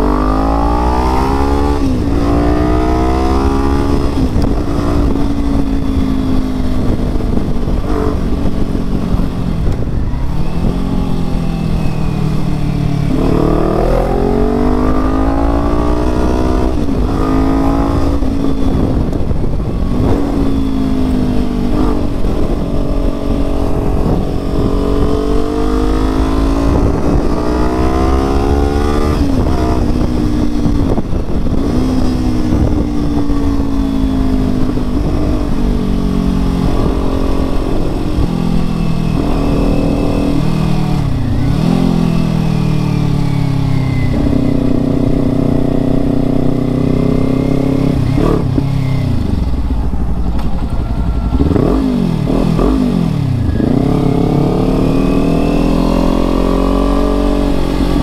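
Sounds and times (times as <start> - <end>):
motorcycle engine revving: 0.0 - 58.0
wind rumble on microphone: 0.0 - 58.0.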